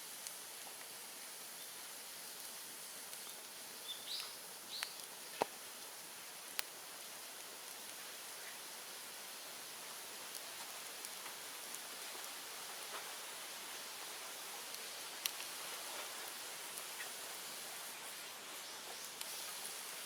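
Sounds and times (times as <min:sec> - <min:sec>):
fire burning with hiss: 0:00.0 - 0:20.0
fire crackles and pop: 0:00.0 - 0:20.0.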